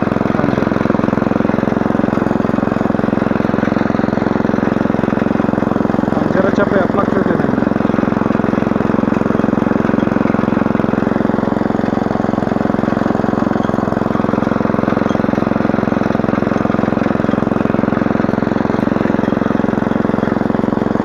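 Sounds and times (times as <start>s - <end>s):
tiller engine running: 0.0s - 21.0s.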